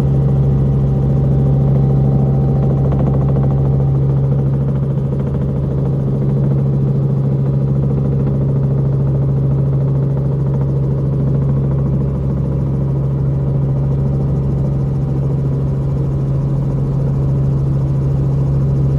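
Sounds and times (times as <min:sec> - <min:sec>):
helicopter engine and rotor drone: 0:00.0 - 0:18.9.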